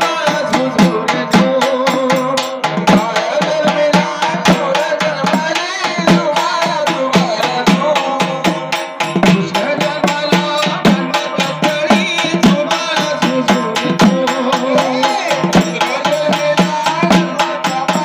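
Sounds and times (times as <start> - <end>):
hand drum beat: 0.0 - 18.0
rattling percussion: 0.0 - 18.0.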